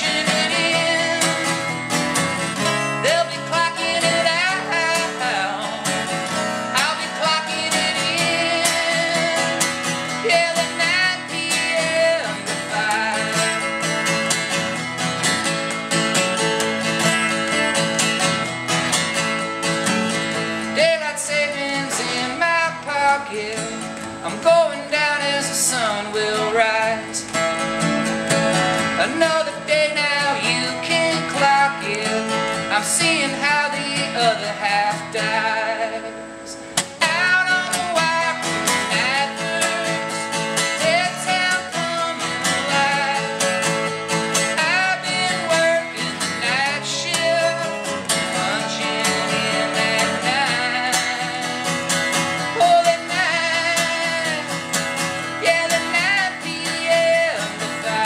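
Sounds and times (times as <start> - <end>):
acoustic guitar: 0.0 - 58.0
man singing: 0.0 - 58.0.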